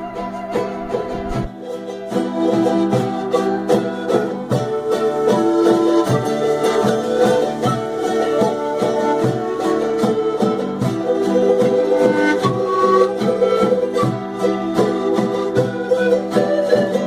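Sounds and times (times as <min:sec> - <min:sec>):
plucked string instrument music: 0:00.0 - 0:17.0.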